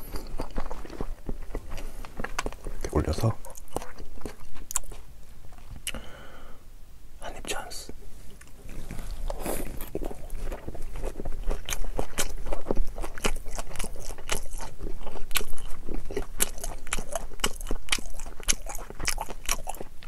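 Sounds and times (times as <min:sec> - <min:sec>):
wet chewing mouth clicks and smacks: 0:00.0 - 0:06.0, 0:09.2 - 0:20.0.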